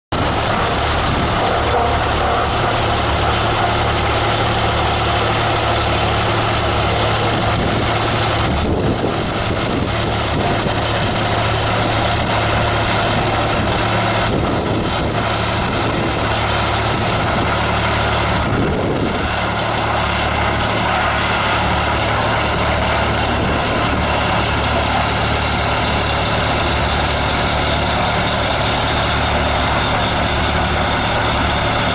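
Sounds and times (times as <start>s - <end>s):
vibratory roller throbbing: 0.2s - 31.9s.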